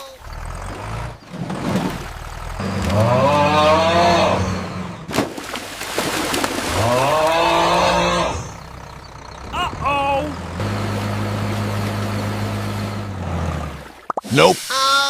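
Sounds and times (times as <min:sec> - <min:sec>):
cartoon tractor engine revving: 0:00.0 - 0:05.2, 0:06.1 - 0:15.0.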